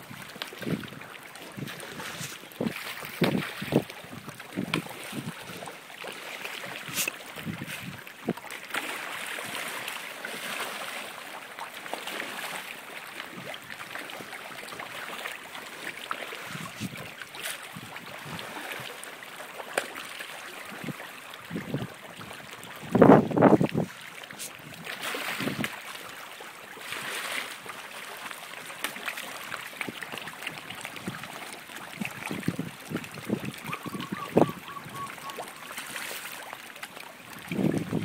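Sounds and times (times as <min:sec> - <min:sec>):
pond water lapping: 0:00.0 - 0:38.0
fish splashing at surface: 0:00.2 - 0:21.0, 0:23.9 - 0:33.8, 0:34.9 - 0:38.0.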